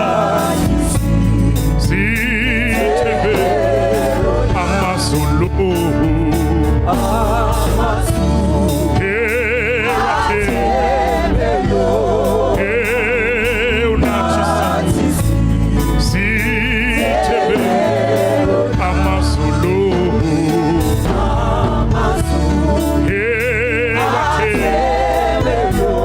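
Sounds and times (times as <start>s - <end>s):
choir singing gospel: 0.0s - 26.0s
steady bass accompaniment: 0.0s - 26.0s.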